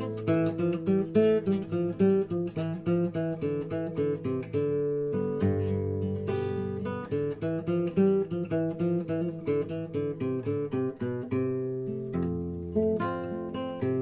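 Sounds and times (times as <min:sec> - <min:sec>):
acoustic guitar waltz: 0:00.0 - 0:14.0.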